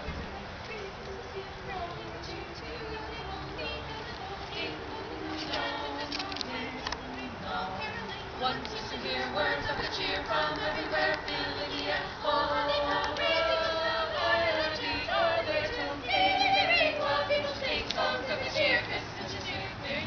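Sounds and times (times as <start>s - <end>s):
choir singing unaccompanied: 0.0s - 20.0s.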